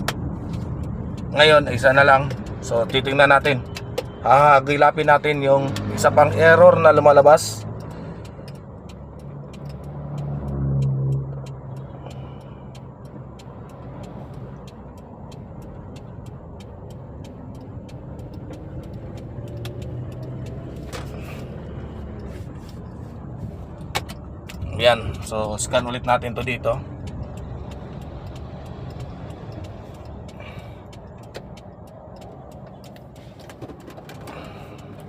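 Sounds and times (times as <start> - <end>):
car engine misfiring: 0.0 - 35.0
light steady ticking: 0.0 - 35.0.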